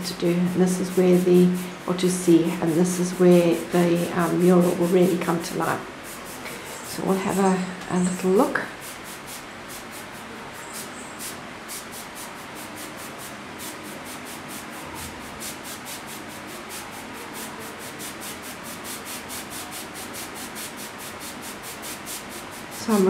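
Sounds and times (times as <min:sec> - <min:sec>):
airbrush spraying pulsing hiss: 0:00.1 - 0:23.0.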